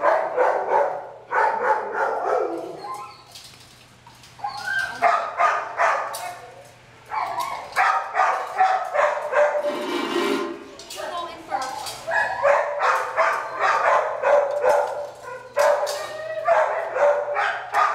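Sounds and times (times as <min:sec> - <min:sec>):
dogs barking: 0:00.0 - 0:03.3, 0:04.3 - 0:09.8, 0:11.4 - 0:17.9.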